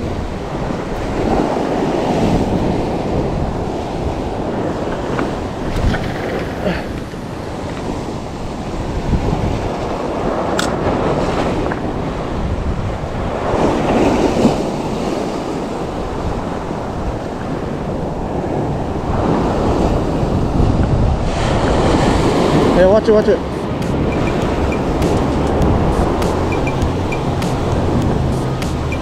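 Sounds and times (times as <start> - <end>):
ocean waves washing over rocks: 0.0 - 29.0
wind buffeting microphone: 0.0 - 29.0.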